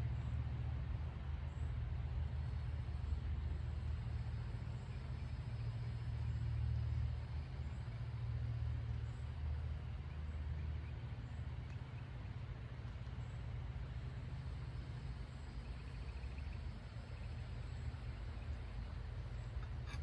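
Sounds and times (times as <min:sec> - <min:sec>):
steady low rumble: 0:00.2 - 0:20.0.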